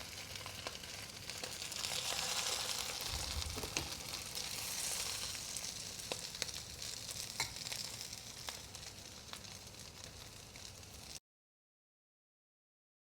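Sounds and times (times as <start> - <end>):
food sizzling in oil: 0.0 - 11.2.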